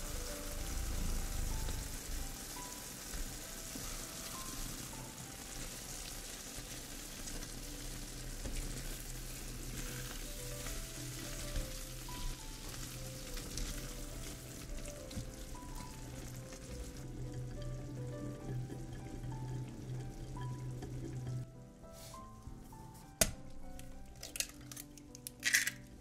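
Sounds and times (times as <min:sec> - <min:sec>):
food sizzling in oil: 0:00.0 - 0:22.1.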